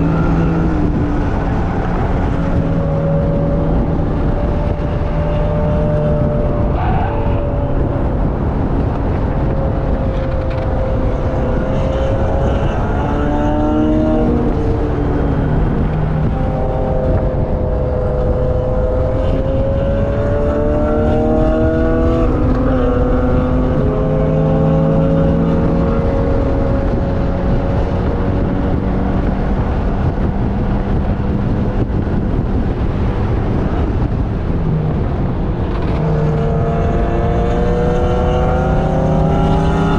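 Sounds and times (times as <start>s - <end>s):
vehicle engine revving: 0.0s - 39.9s
wind and road rush: 0.0s - 39.9s.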